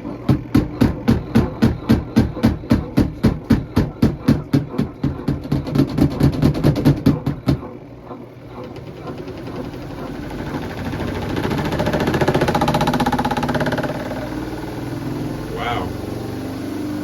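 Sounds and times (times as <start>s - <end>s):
washing machine motor hum: 0.0s - 17.0s
washing machine rapid knocking: 0.0s - 17.0s.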